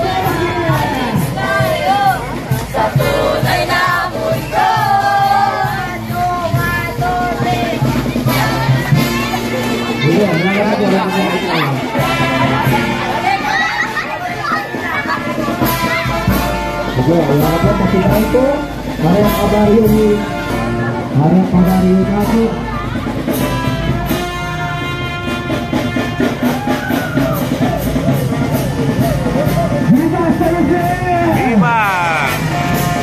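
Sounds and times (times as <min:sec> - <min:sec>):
horns playing a tune: 0:00.0 - 0:33.0
steady drumbeat: 0:00.0 - 0:33.0.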